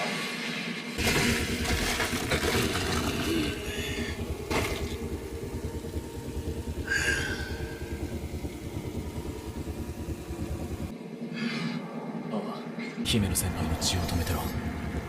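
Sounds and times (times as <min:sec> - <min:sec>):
motor running with low pulsing: 0:01.0 - 0:11.3, 0:13.1 - 0:15.0.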